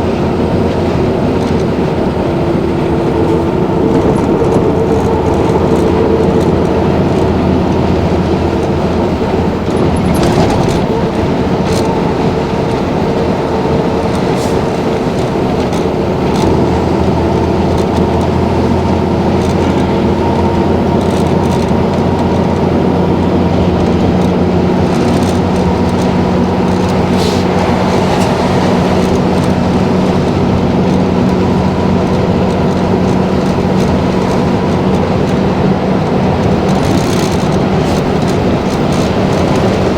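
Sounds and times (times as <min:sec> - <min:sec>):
diesel engine drone: 0:00.0 - 0:39.9
rattles: 0:00.5 - 0:22.7, 0:23.3 - 0:39.9.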